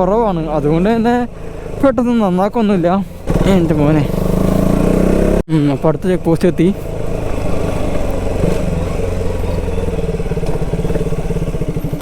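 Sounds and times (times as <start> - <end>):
motorcycle engine chugging: 0.0 - 12.0.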